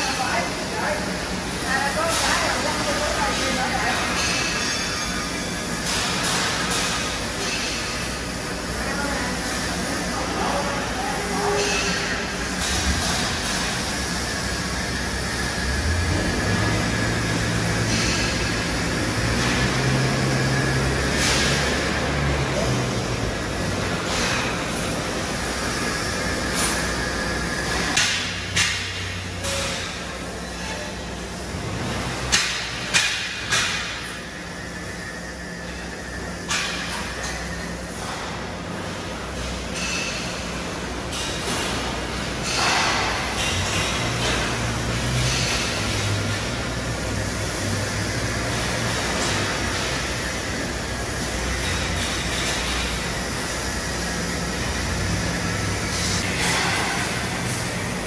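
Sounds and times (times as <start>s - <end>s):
workshop machinery rumble: 0.0s - 58.0s.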